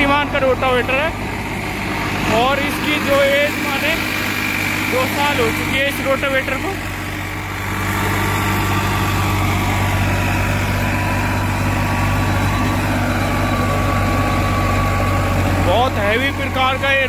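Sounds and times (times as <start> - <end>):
tractor diesel engine running: 0.0 - 17.0
rotavator blades churning soil: 0.1 - 17.0.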